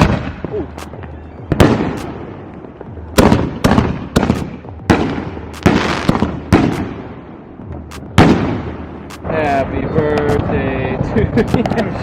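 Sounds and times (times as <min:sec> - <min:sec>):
firework shells bursting with bangs: 0:00.0 - 0:10.6.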